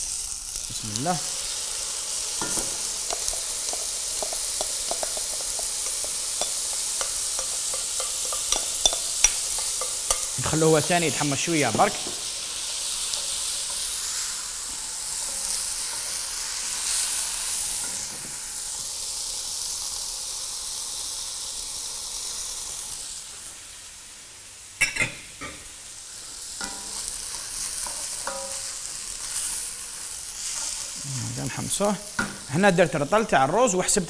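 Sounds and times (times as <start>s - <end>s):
rice sizzling in hot oil: 0.0s - 34.0s.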